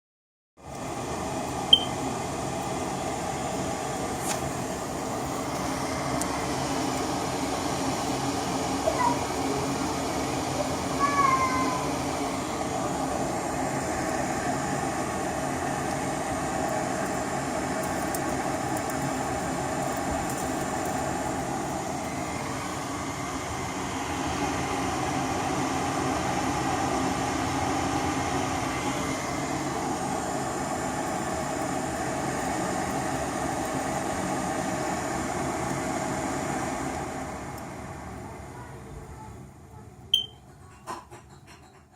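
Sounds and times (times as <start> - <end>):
furnace fan motor whirring: 0.6 - 41.9.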